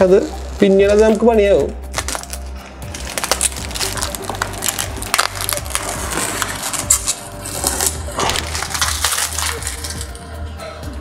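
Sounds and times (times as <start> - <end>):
plastic film peeling and crinkling: 0.0 - 10.4.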